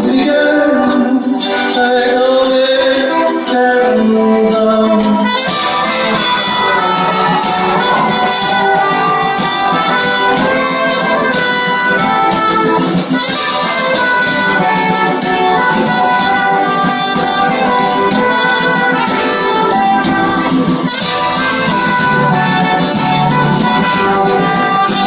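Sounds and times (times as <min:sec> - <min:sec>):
live band playing: 0:00.0 - 0:25.0
brass section playing: 0:04.8 - 0:25.0.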